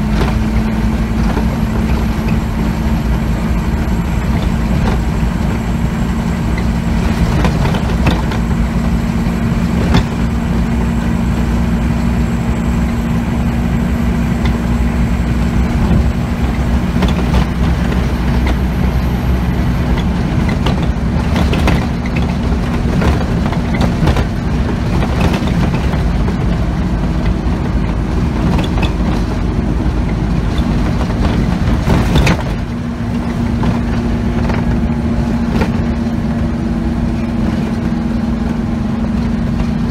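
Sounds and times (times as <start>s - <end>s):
bus body rattling: 0.0s - 39.9s
bus diesel engine droning: 0.0s - 39.9s.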